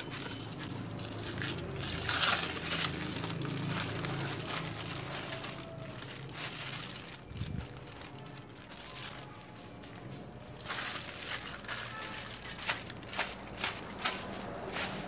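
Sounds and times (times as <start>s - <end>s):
ice and syrup sloshing and scraping: 0.0s - 15.0s.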